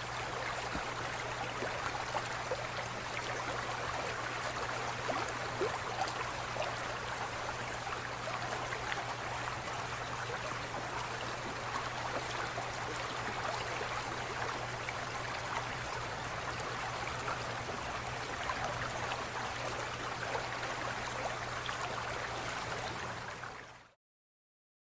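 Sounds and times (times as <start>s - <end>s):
aquarium water trickling and bubbling: 0.0s - 24.0s.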